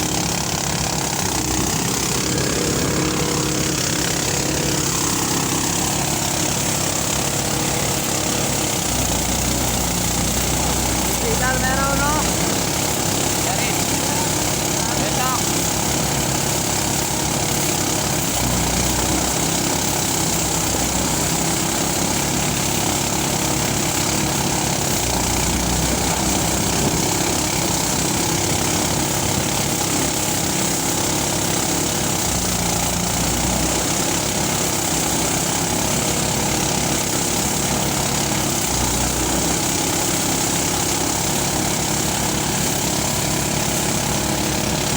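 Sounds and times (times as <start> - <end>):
threshing machine engine rumbling: 0.0 - 44.9.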